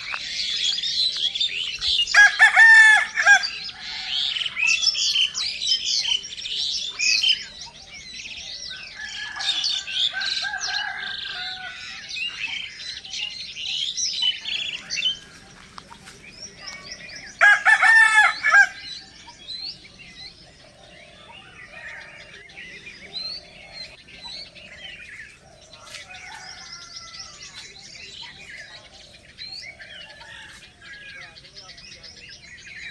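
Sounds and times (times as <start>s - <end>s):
small birds chirping and singing: 0.0s - 32.9s.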